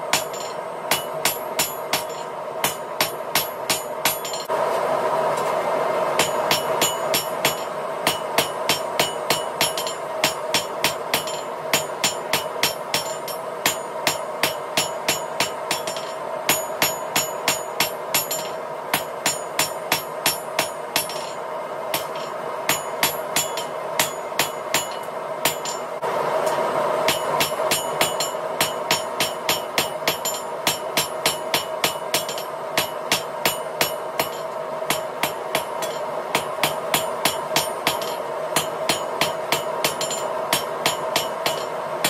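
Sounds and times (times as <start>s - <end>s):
hammer striking steel on anvil: 0.0s - 4.6s, 6.2s - 41.9s
steady background hum: 0.0s - 42.0s.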